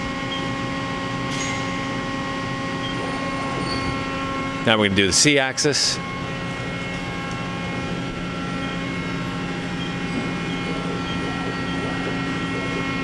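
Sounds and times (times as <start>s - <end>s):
lathe machine hum: 0.0s - 13.0s
steady machine tones: 0.0s - 13.0s.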